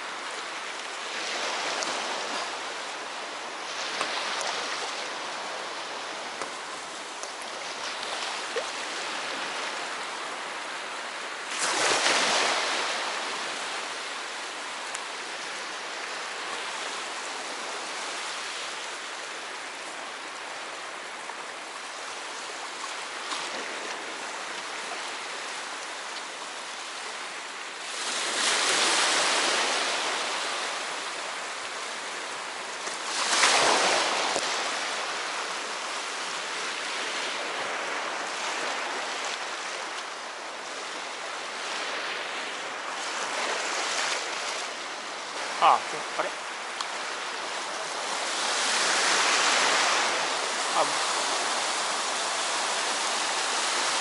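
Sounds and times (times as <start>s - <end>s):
sea waves washing on shore: 0.0s - 54.0s
waves breaking: 0.0s - 54.0s.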